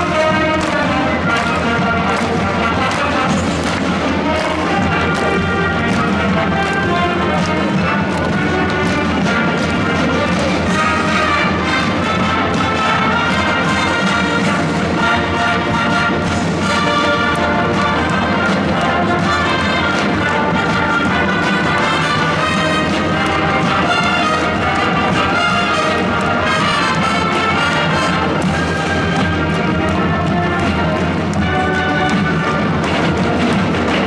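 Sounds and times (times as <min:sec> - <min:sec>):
brass section: 0:00.0 - 0:34.0
wind band playing: 0:00.0 - 0:34.0.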